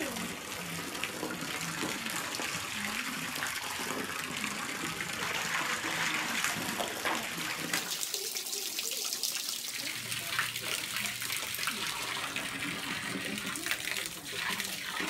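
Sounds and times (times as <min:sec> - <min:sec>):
water pouring into pool: 0:00.0 - 0:15.0.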